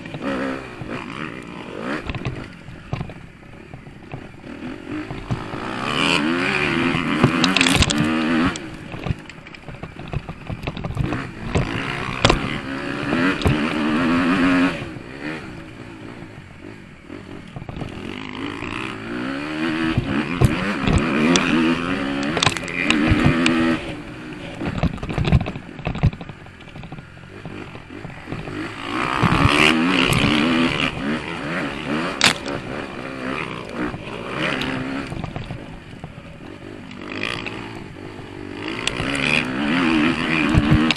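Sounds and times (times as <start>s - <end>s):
bike knocking and clattering: 0.0s - 14.5s, 17.5s - 40.9s
motocross engine revving: 0.0s - 40.9s.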